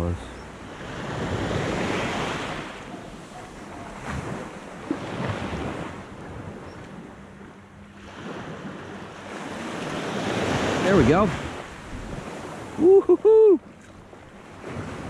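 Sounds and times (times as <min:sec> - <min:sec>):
small waves washing on sand: 0:00.0 - 0:15.0
wind buffeting microphone: 0:00.0 - 0:15.0.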